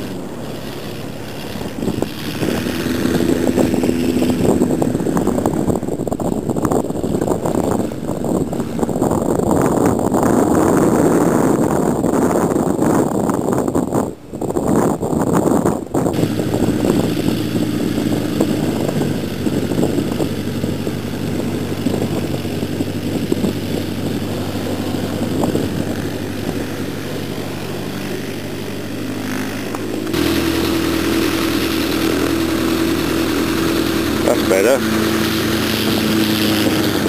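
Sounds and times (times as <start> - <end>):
light aircraft propeller engine: 0.0 - 37.0.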